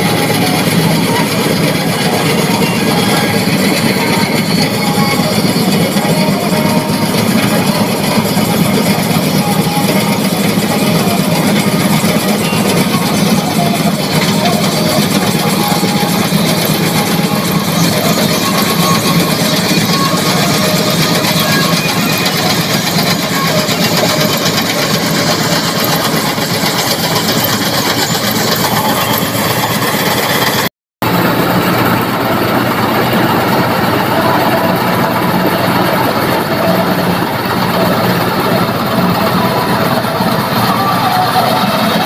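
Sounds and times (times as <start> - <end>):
combine harvester diesel engine: 0.0 - 42.0
rattle of cutter and threshing drum: 0.0 - 42.0.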